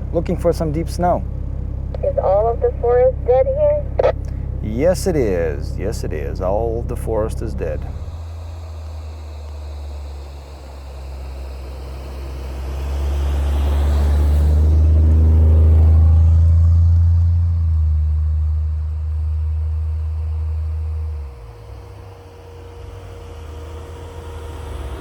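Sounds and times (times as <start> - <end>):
car engine and road drone: 0.0 - 25.0.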